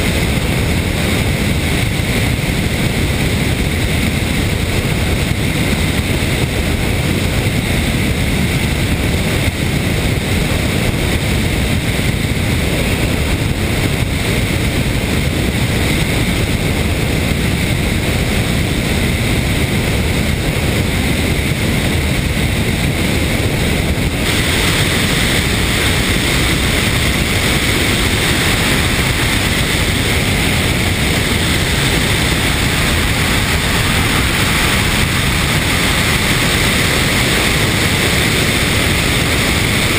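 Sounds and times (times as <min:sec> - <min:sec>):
loud rush of airflow: 0:00.0 - 0:39.9.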